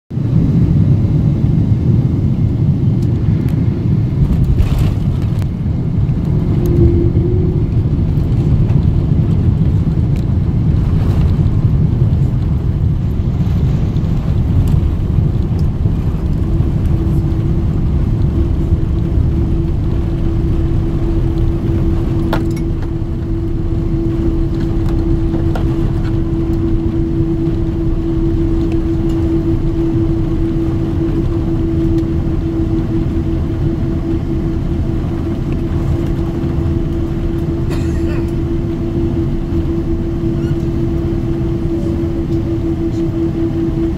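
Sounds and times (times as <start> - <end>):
engines and wheels rumbling: 0.1 - 43.9
steady hum: 0.2 - 43.9.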